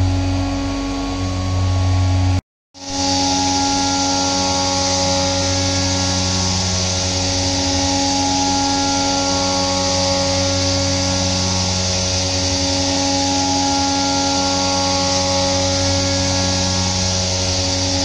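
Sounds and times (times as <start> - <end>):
spindle whine: 0.0 - 18.0
milling machine cutting metal: 2.9 - 18.0.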